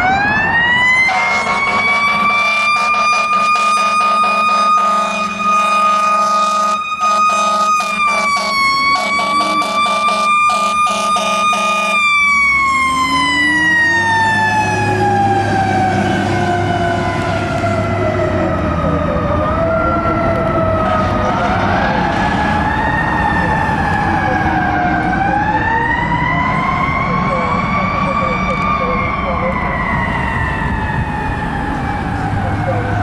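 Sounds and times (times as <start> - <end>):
fire truck siren wailing: 0.0 - 33.0
truck engine rumbling: 0.0 - 33.0.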